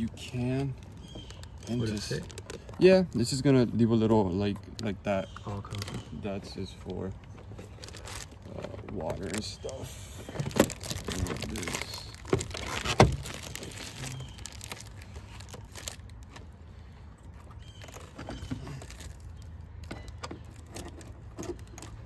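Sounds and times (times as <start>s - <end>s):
plastic wrap crinkling: 0.6s - 16.4s, 17.7s - 22.0s.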